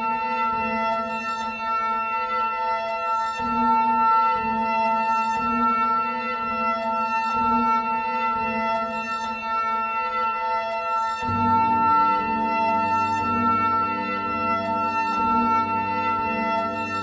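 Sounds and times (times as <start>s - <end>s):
ambient electronic music: 0.0s - 17.0s.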